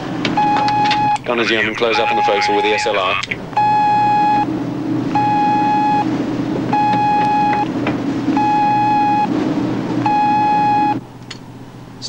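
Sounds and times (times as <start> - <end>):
buzzing alarm blasts: 0.0 - 11.2
continuous low hum: 0.0 - 12.0.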